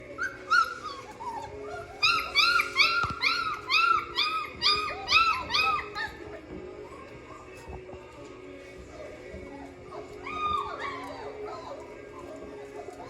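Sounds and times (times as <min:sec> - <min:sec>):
puppies whining and crying: 0:00.0 - 0:13.0.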